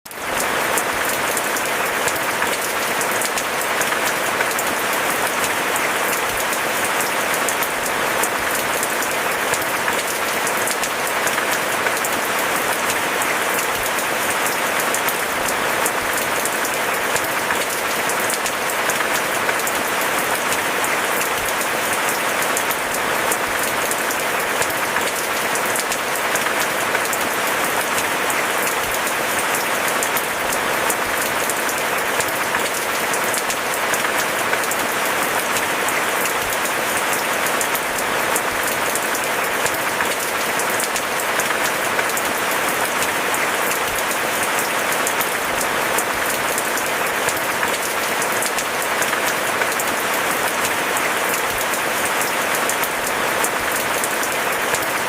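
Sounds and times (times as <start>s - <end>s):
steady rain falling: 0.1s - 55.0s.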